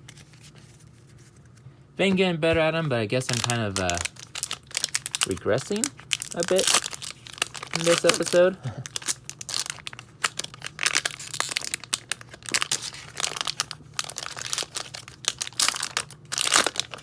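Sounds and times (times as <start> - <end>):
foil wrapper crinkling and tearing: 3.1 - 17.0.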